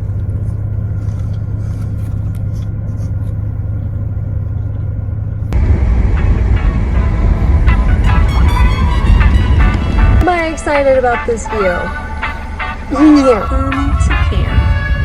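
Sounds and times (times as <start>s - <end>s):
car road rumble from inside: 0.0s - 15.0s.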